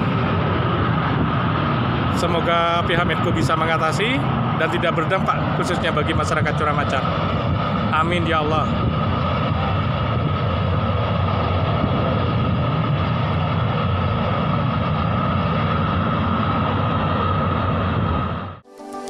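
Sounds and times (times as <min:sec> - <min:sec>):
steam venting rushing noise: 0:00.0 - 0:18.6.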